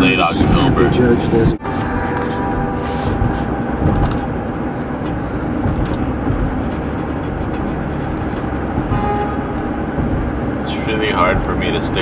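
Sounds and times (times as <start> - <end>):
road and engine noise in van: 0.0 - 12.0.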